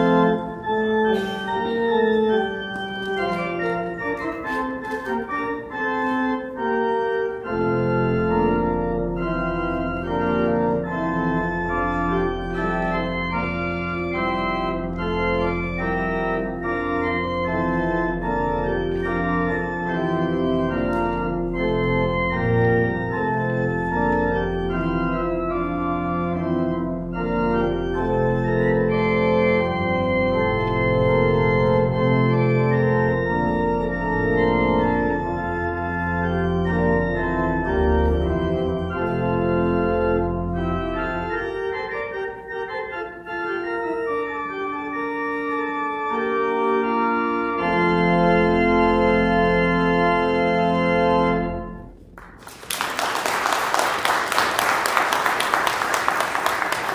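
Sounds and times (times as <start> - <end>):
deep organ pedal bass: 0.0 - 52.0
pipe organ chords: 0.0 - 52.4.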